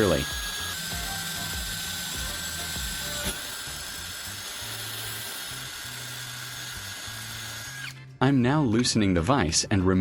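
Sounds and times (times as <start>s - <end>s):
electric drill boring metal: 0.0s - 8.1s
background music: 0.0s - 10.0s.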